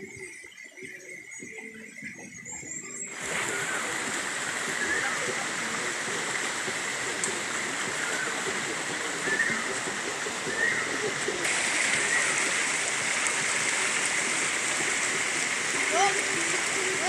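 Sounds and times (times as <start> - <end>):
stream rushing over stones: 3.0 - 17.0.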